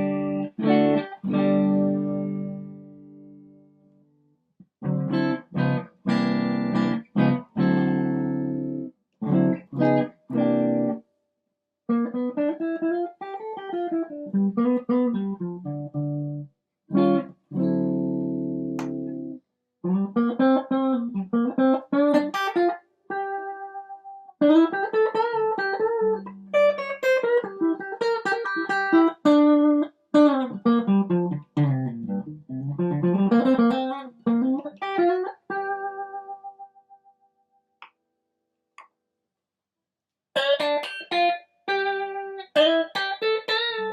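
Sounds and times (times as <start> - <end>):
overdriven electric guitar: 0.0 - 3.7, 4.8 - 11.0, 11.9 - 37.0, 40.4 - 43.9.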